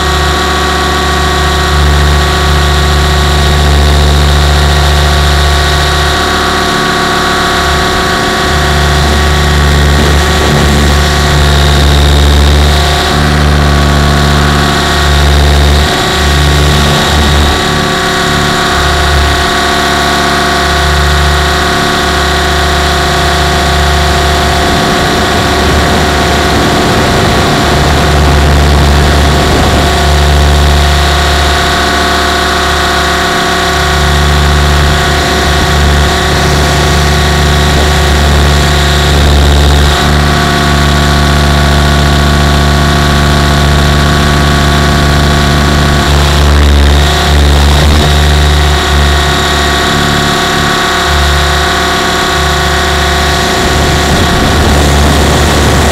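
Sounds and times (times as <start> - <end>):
rc helicopter whine: 0.0 - 55.9.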